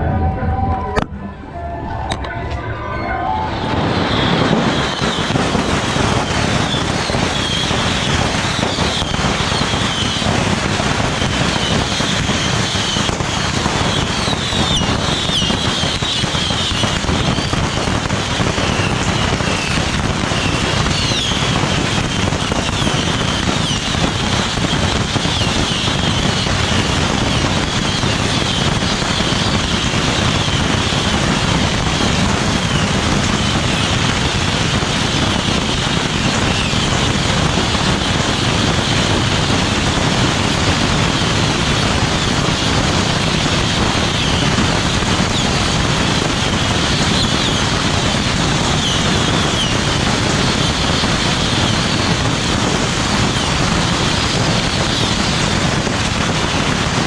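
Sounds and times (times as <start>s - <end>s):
bottle rockets whistling: 0.4s - 57.0s
crackling hiss of launches: 3.5s - 57.0s.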